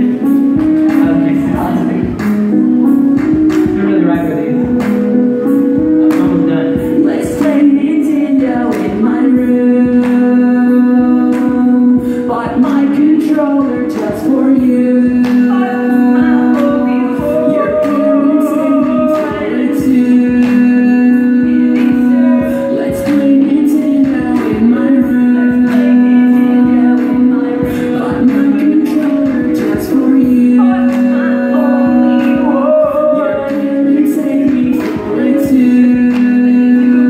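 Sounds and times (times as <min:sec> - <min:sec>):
rhythmic accompaniment of sharp strokes: 0:00.0 - 0:37.0
person singing through a pa: 0:06.0 - 0:37.0.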